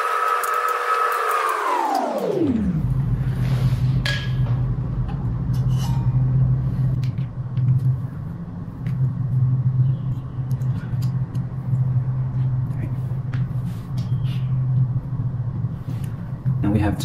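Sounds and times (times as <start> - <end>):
low hum with rumble: 1.8 - 17.0.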